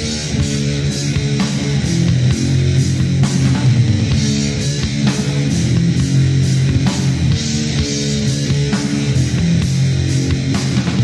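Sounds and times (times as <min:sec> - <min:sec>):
distorted electric guitars riff: 0:00.0 - 0:11.0
heavy metal band playing: 0:00.0 - 0:11.0.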